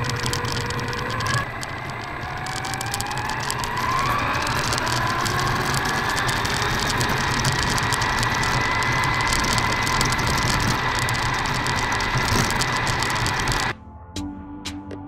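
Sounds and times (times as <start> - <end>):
electric motor whining: 0.0 - 13.7
rapid clicks of gears and tyres: 0.0 - 13.7.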